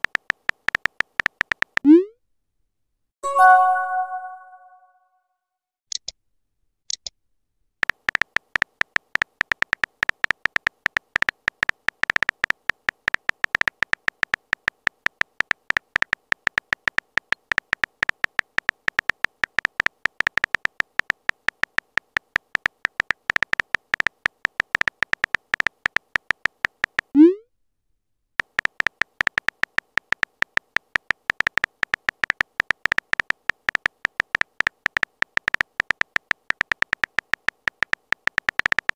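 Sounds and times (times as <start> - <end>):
electronic keyboard typing clicks: 0.0 - 2.0, 7.8 - 27.2, 28.4 - 38.9.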